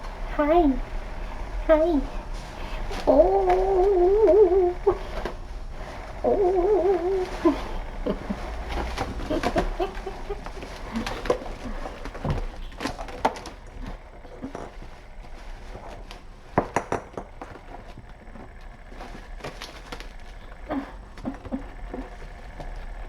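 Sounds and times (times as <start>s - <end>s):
kittens knocking and thumping: 0.0s - 23.0s
steady low hum: 0.0s - 23.0s.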